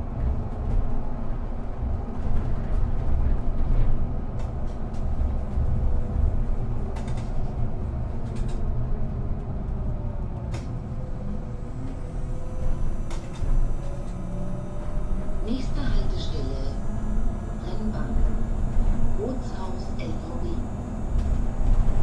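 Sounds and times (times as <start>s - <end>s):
bus low rumble: 0.0s - 22.0s.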